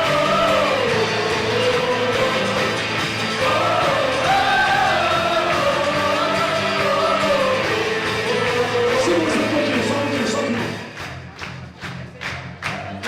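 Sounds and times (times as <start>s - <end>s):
voices singing held notes: 0.0s - 10.8s
worship band music: 0.0s - 11.3s.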